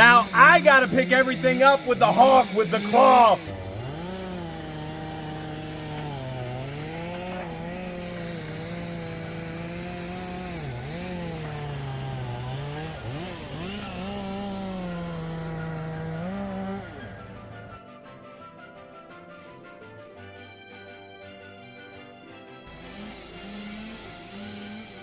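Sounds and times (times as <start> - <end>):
chainsaw cutting wood: 0.0 - 17.8, 22.7 - 25.0.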